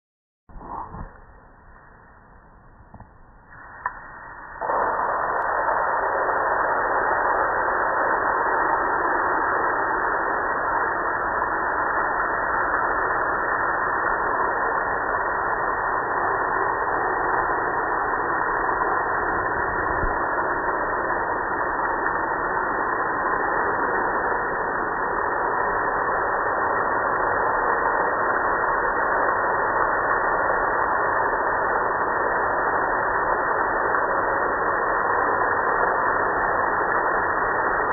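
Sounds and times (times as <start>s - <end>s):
loud steady machine noise: 4.4s - 37.9s.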